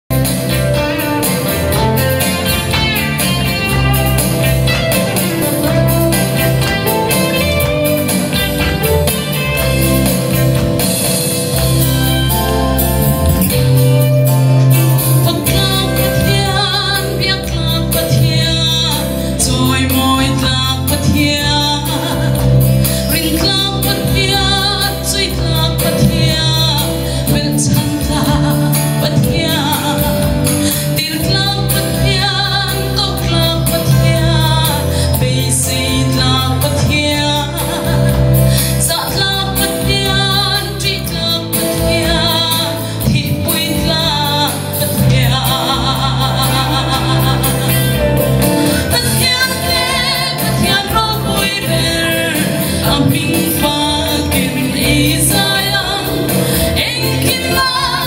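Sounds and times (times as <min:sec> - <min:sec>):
instrumental backing with bass: 0:00.0 - 0:58.0
woman singing into microphone: 0:11.5 - 0:58.0.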